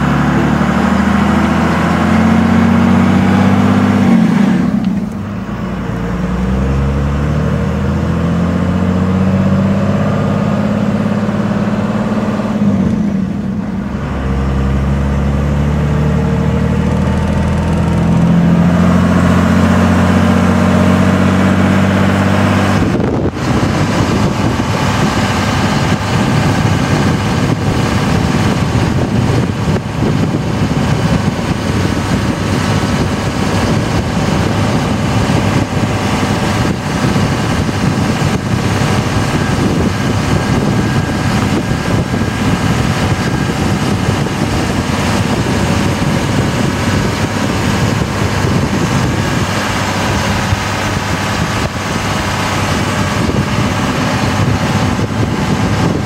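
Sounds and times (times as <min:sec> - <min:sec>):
diesel engine under heavy load: 0:00.0 - 0:56.0
road noise: 0:00.0 - 0:56.0.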